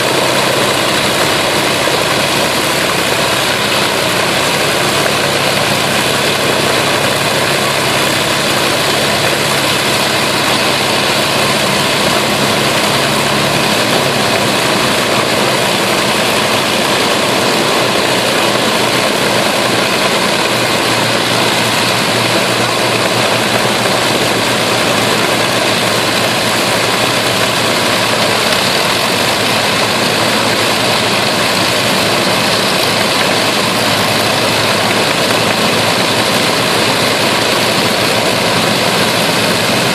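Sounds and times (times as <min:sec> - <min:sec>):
piston aircraft engines droning: 0:00.0 - 0:39.9.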